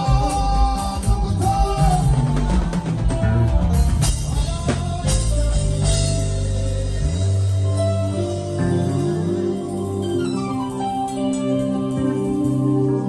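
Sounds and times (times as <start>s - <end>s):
bass guitar: 0.0s - 13.0s
drum kit: 0.0s - 13.0s
synthesizer keyboard chords: 0.0s - 13.0s.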